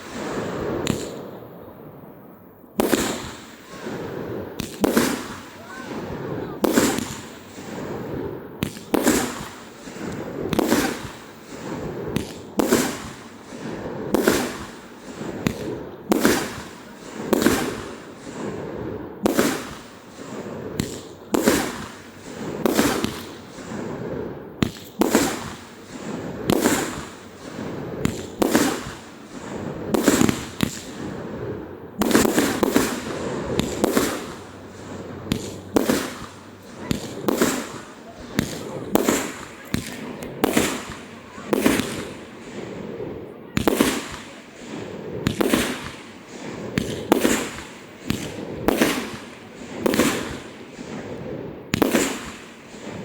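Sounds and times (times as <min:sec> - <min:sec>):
firework shells bursting: 0:00.0 - 0:01.4, 0:02.8 - 0:18.6, 0:24.6 - 0:51.1.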